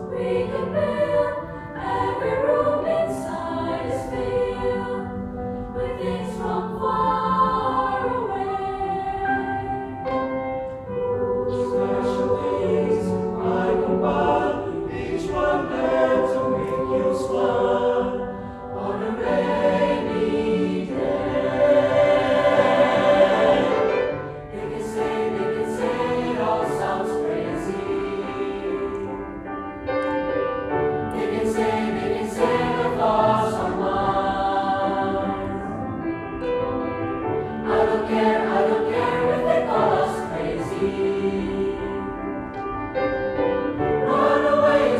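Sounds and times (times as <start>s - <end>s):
choir singing: 0.0s - 29.4s, 30.8s - 44.9s.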